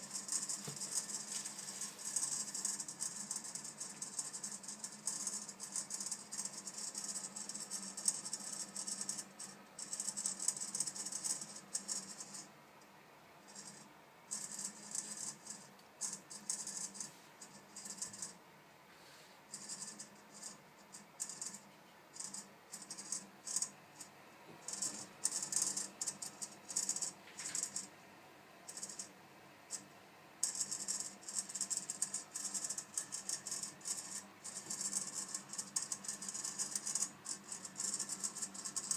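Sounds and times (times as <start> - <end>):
boiler high-pitched rattling: 0.0 - 12.5, 13.5 - 18.4, 19.6 - 27.9, 30.4 - 38.9
low steady boiler hum: 0.0 - 38.9.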